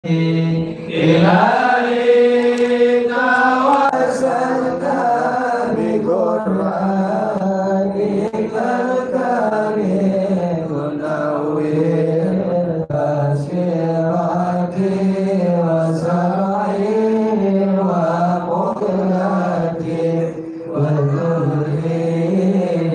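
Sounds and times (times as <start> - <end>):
man chanting: 0.0 - 22.9.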